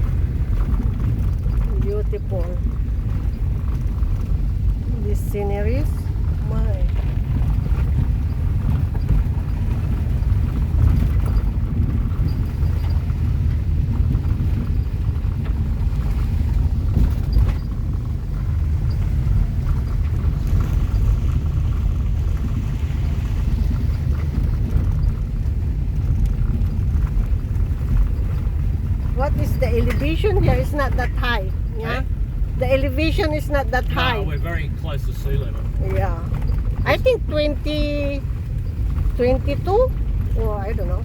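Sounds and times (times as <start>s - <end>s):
car driving rumble: 0.0s - 41.0s.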